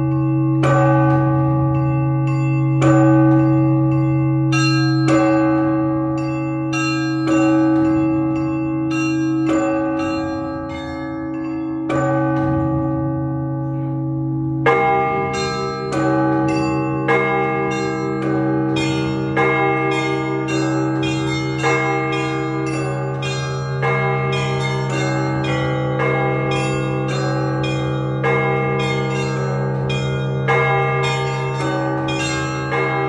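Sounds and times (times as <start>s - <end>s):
big bells humming: 0.0s - 33.0s.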